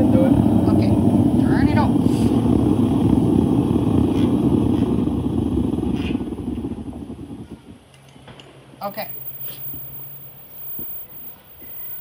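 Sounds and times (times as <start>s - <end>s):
propane burner rushing: 0.0s - 12.0s.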